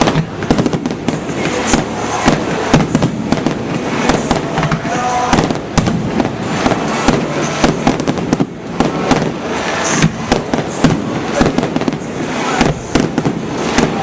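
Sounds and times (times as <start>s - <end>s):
fireworks bangs and crackles: 0.0s - 14.0s
rumble of echoing reports: 1.0s - 14.0s.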